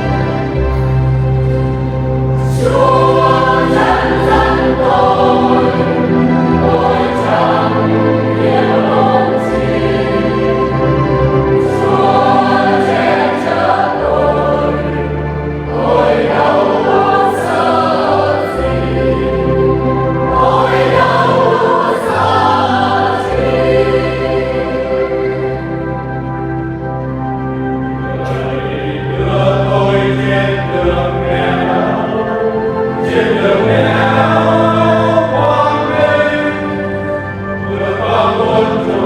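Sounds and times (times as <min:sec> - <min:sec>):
choir singing a hymn: 0:00.0 - 0:39.0
low instrumental accompaniment: 0:00.0 - 0:39.0.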